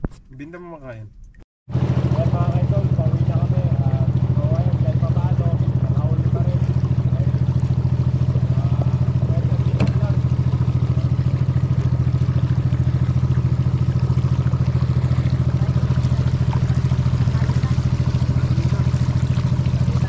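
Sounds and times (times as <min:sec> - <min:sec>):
small boat engine putter: 0:00.0 - 0:20.0.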